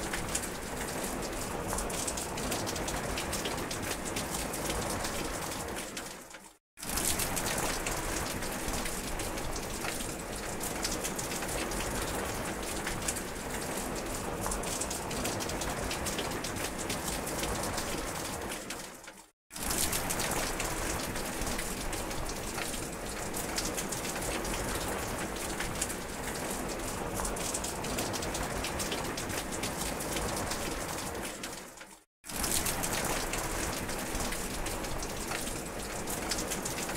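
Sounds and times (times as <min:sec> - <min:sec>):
steady rain: 0:00.0 - 0:36.9.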